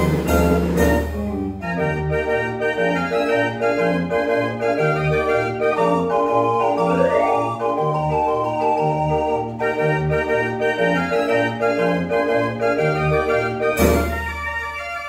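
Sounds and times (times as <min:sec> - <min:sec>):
street organ playing: 0:00.0 - 0:15.0.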